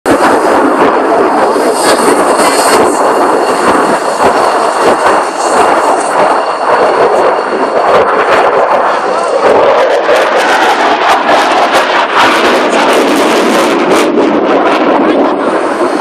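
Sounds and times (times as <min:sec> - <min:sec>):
fighter jet flying past: 0:00.1 - 0:16.0.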